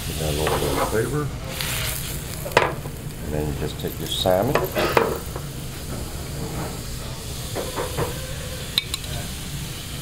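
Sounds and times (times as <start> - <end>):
sauce simmering with hiss: 0.0 - 10.0.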